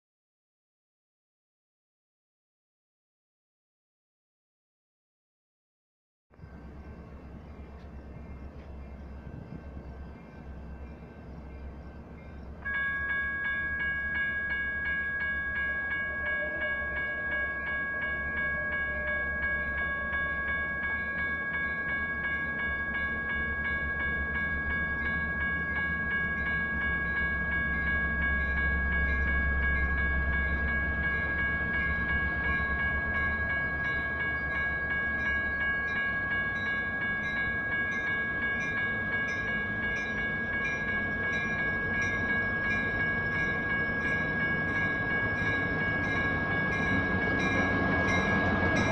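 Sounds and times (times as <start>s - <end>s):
railroad crossing bells ringing: 6.5s - 48.9s.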